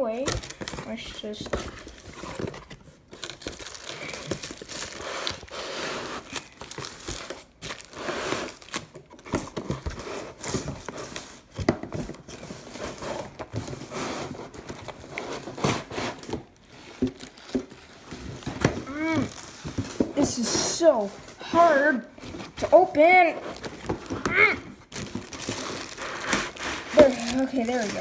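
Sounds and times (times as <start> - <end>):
packaging crinkling and tearing: 0.1 - 21.4, 22.2 - 28.0.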